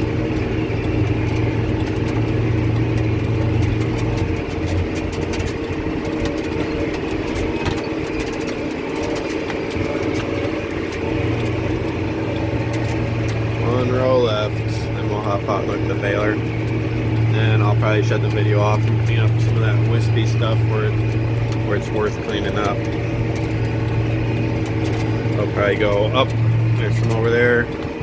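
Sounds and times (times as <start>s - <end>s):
clicks and rattles from baler: 0.0s - 28.0s
tractor engine drone: 0.0s - 28.0s.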